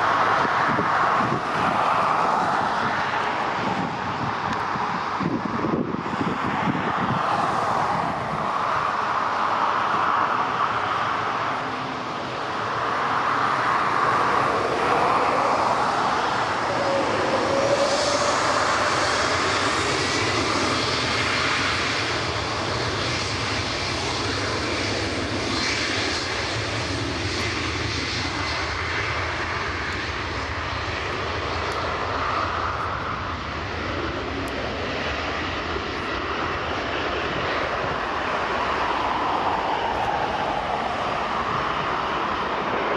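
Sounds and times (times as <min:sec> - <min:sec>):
jet engines running: 0:00.0 - 0:42.9.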